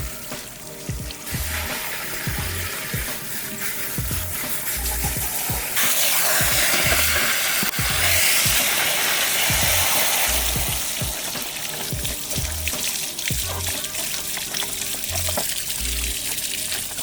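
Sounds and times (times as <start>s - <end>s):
water spray hissing: 0.0s - 17.0s.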